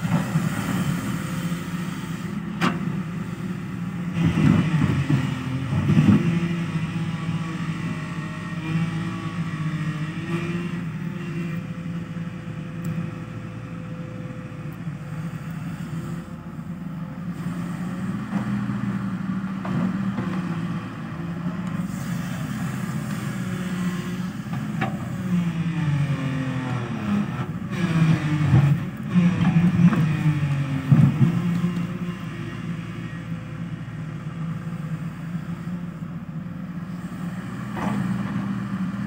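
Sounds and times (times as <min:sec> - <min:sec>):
excavator diesel engine under load: 0:00.0 - 0:39.0.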